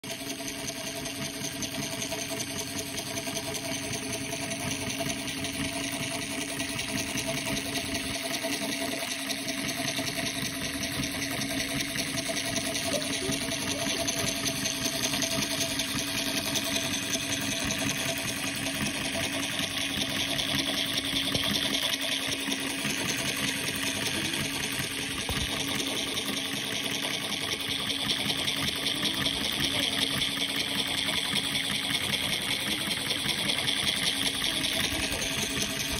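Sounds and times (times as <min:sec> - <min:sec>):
metal linkage rattling: 0:00.1 - 0:35.9
small electric motor whirring: 0:00.1 - 0:35.9.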